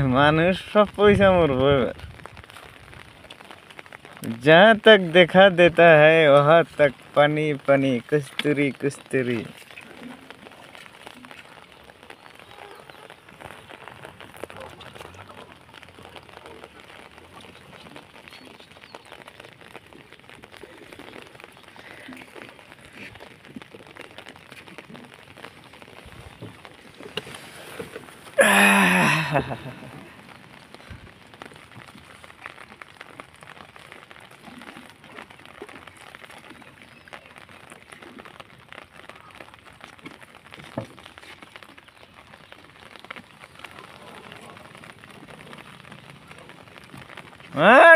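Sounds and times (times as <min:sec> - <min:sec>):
rain pattering on umbrella: 0:00.0 - 0:47.9.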